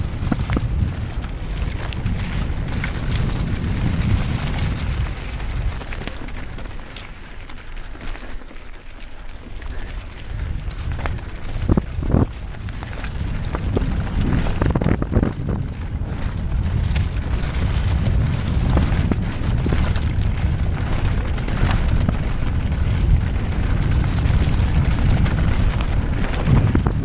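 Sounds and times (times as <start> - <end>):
wind buffeting microphone: 0.0 - 7.0, 9.4 - 27.0
bike knocking and rattling: 0.0 - 27.0.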